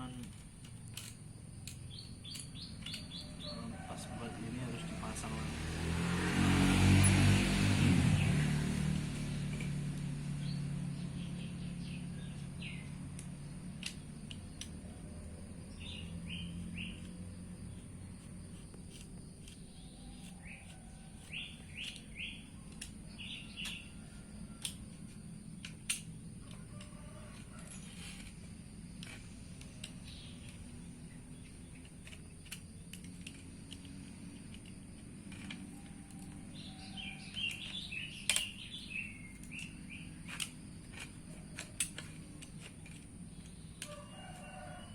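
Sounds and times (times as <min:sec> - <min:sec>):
small birds chirping: 0:00.0 - 0:05.6, 0:08.0 - 0:44.9.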